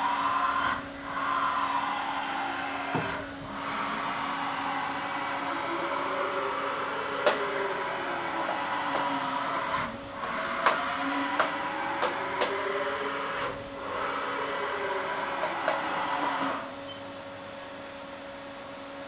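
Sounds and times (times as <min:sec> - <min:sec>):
steady rushing noise: 0:00.0 - 0:16.6
quiet machine hum: 0:00.0 - 0:19.0
servo whine gliding in pitch: 0:00.0 - 0:19.0.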